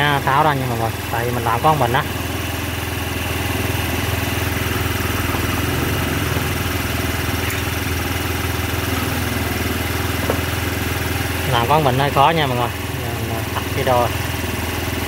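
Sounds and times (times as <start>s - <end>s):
motorcycle engine idling high: 0.0s - 15.0s.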